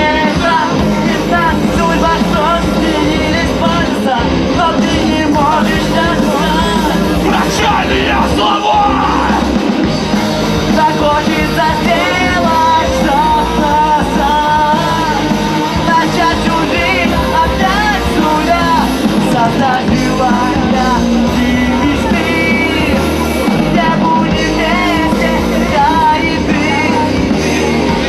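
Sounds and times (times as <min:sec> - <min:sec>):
live rock band playing: 0:00.0 - 0:28.0
person singing: 0:00.0 - 0:28.0.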